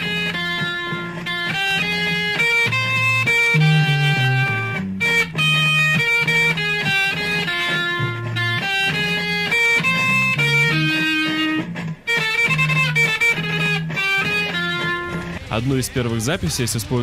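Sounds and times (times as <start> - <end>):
distorted electric guitar melody: 0.0 - 17.0.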